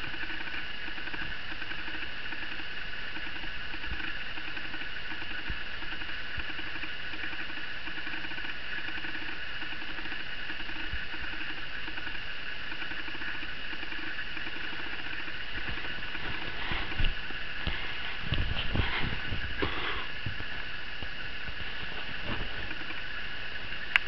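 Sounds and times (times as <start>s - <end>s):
steady high-pitched hum: 0.0s - 24.0s.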